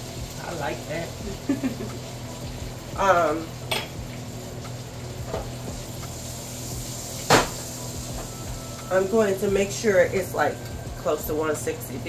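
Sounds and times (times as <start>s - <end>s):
steak sizzling in butter: 0.0s - 12.0s.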